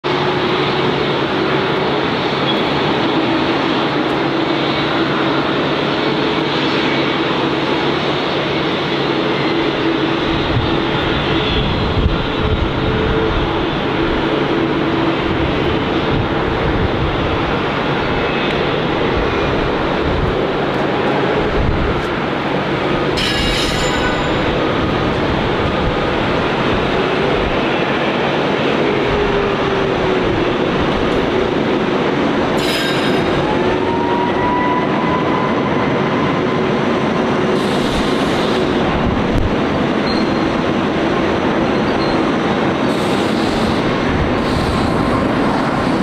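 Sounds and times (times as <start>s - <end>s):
jet engines humming: 0.0s - 46.0s.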